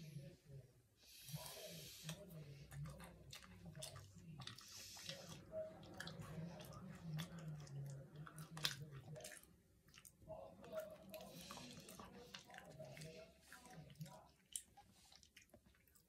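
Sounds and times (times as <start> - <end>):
person chewing crunchy food: 2.7 - 16.0.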